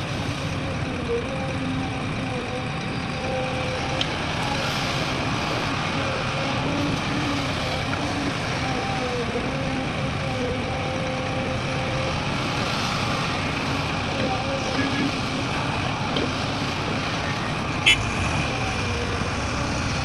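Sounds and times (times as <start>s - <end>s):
diesel machinery engine drone: 0.0s - 20.0s.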